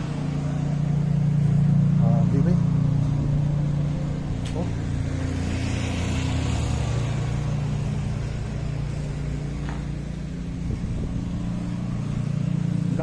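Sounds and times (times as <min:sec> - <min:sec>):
motor vehicle engine humming: 0:00.0 - 0:13.0.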